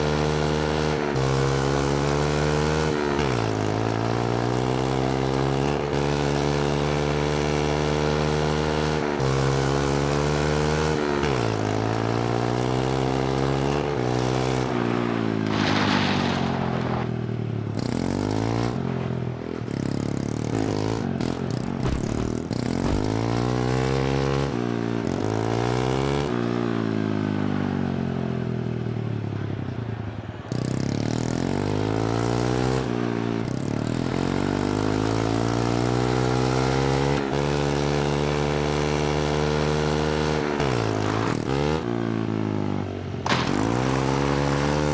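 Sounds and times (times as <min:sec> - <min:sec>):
small bike engine revving: 0:00.0 - 0:28.1, 0:30.5 - 0:44.9.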